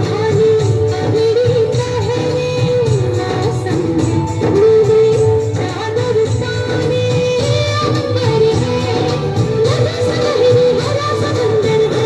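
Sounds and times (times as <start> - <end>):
instrumental backing: 0.0 - 12.0.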